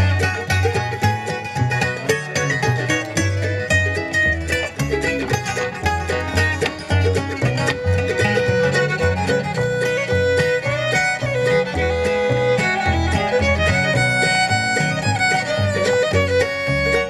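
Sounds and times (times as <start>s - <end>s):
bass notes: 0.0s - 17.0s
fiddle melody: 0.0s - 17.0s
rhythm guitar: 0.0s - 17.0s.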